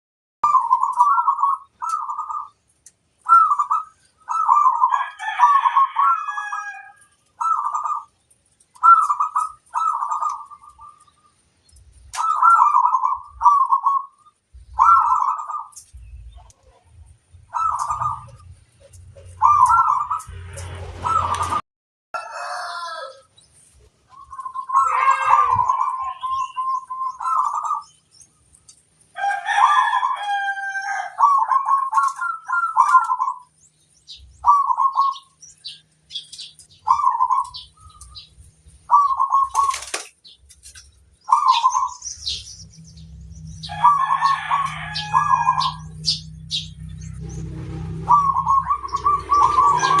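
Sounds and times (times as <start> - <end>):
doves cooing: 0.4 - 2.6, 3.2 - 11.4, 12.0 - 21.6, 24.1 - 28.0, 29.2 - 42.4, 43.0 - 50.0.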